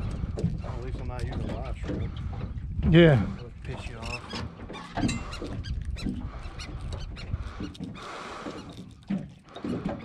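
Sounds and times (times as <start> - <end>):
fish grunting: 0.0 - 10.0
wind on microphone: 0.0 - 10.0.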